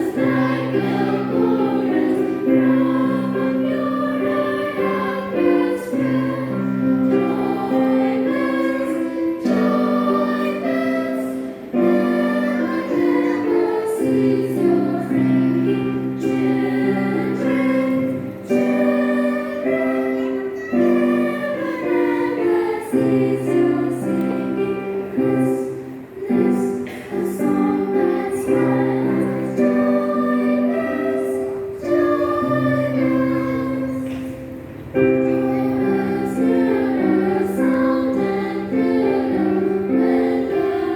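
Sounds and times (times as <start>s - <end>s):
children's choir singing a hymn: 0.0s - 40.9s.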